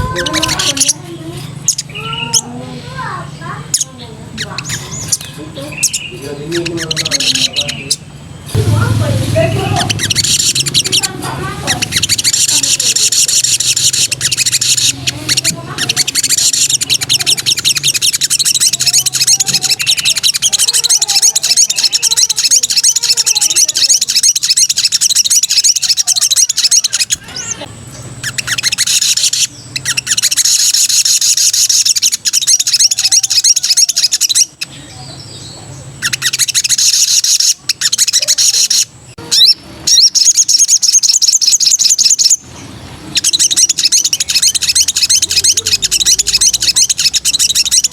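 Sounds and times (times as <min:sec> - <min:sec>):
bird trilled chattering song: 0:00.0 - 0:47.9.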